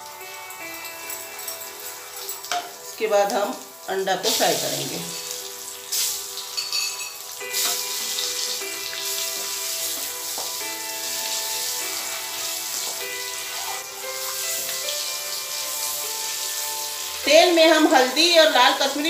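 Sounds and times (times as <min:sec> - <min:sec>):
eggs sizzling in hot oil: 0:00.0 - 0:19.0
soft background music: 0:00.0 - 0:19.0.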